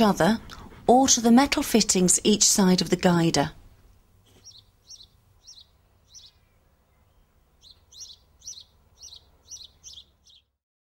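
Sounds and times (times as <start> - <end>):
songbird chirping: 1.2 - 10.6.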